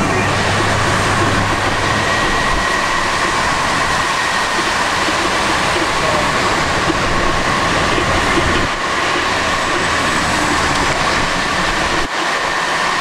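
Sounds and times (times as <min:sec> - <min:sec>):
low rumble: 0:00.0 - 0:12.1
storm wind rushing: 0:00.0 - 0:13.0.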